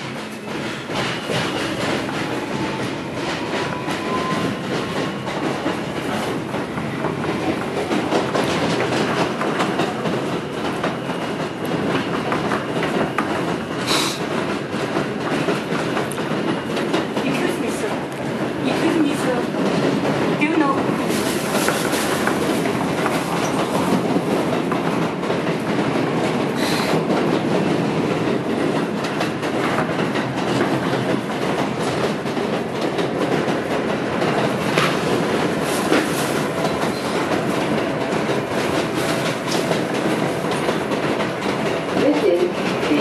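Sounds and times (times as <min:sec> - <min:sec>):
subway train rumbling: 0:00.0 - 0:43.0
wheels clacking over rail joints: 0:00.0 - 0:43.0.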